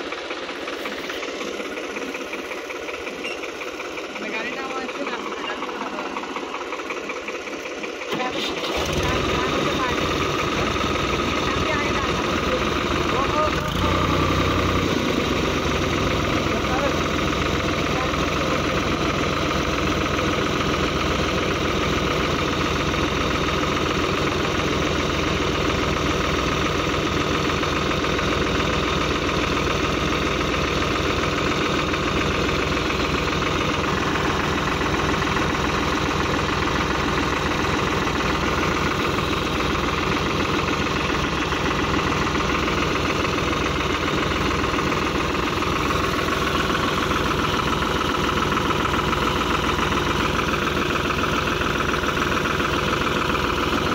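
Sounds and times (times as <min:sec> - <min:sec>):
tractor diesel engine idling: 0:00.0 - 0:53.9.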